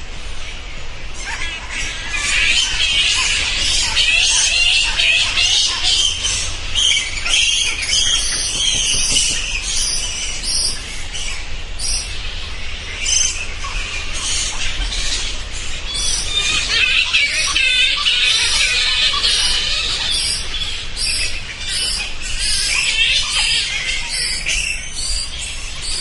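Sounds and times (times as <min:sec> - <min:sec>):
bats squeaking: 0:01.2 - 0:26.0.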